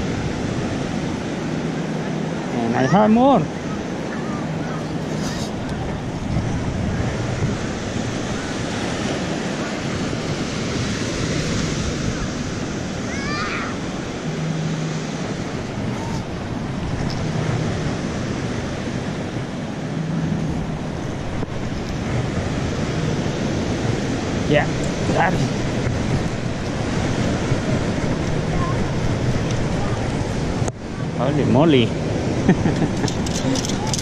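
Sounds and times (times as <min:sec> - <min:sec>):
surf washing on beach: 0:00.0 - 0:34.0
wind on microphone: 0:00.0 - 0:34.0.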